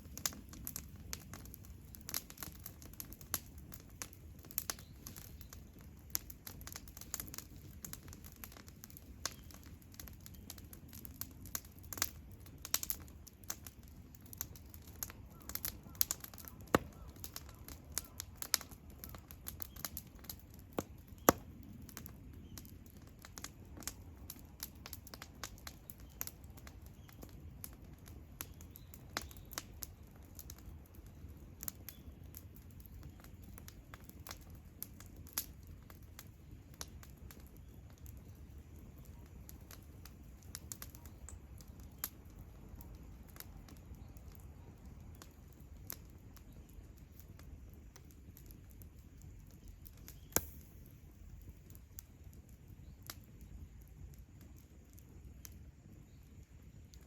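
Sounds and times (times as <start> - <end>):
campfire crackling and popping: 0.0 - 57.0
low rumble of burning: 0.0 - 57.0.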